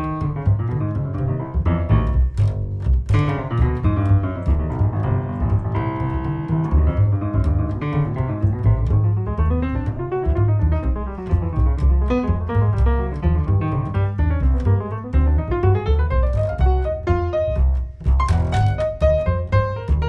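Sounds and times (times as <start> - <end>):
jazz piano: 0.0 - 20.0
plucked double bass: 0.0 - 20.0.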